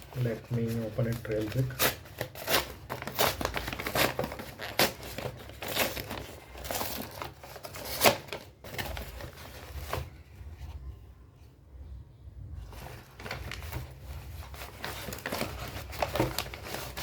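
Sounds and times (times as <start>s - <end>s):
packaging crinkling and tearing: 0.0s - 10.2s, 12.7s - 17.0s.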